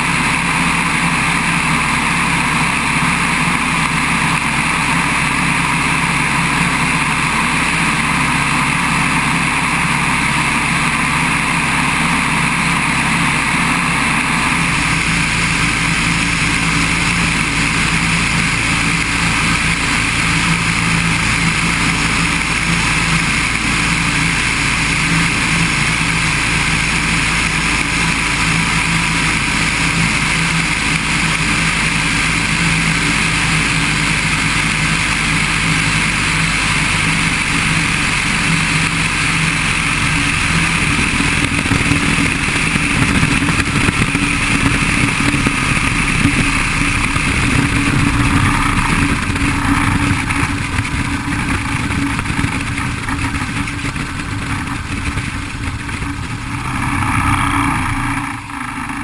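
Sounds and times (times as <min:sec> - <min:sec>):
propeller plane engine running: 0:00.0 - 0:59.0
rough rumble of plane rolling: 0:00.0 - 0:59.0.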